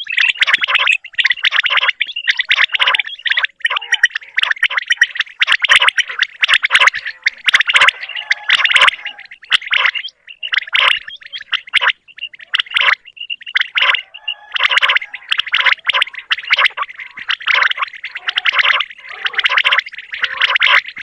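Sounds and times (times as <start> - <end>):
quail calling: 0.0 - 21.0.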